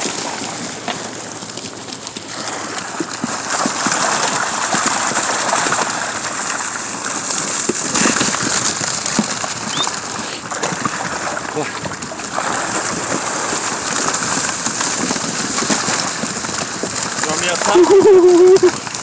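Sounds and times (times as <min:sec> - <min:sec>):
fish splashing: 0:00.0 - 0:19.0
water streaming off a net: 0:00.0 - 0:19.0.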